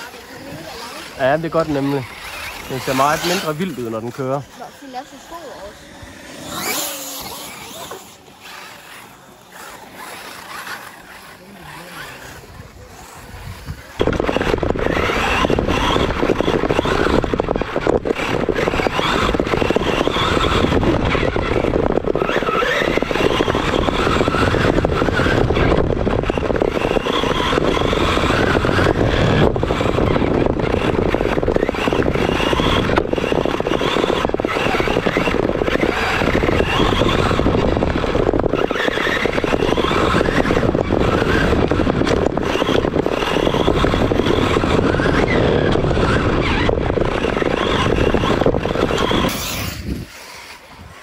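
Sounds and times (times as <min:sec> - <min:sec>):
radio-controlled car driving on dirt: 0:00.0 - 0:51.0.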